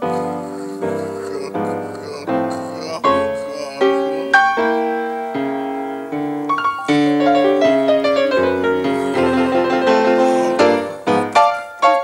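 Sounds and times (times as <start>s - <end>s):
solo jazz piano: 0.0s - 12.0s.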